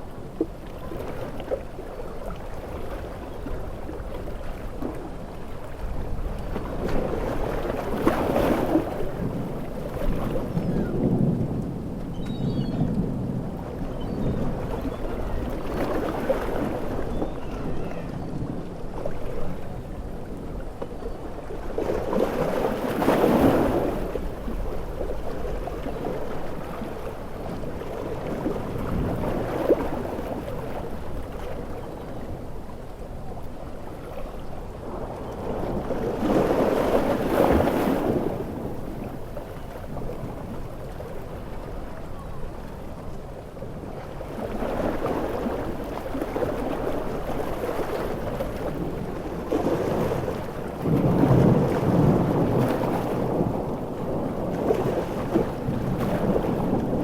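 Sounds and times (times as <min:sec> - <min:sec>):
stormy sea surf: 0:00.0 - 0:57.0
waves breaking: 0:00.0 - 0:57.0.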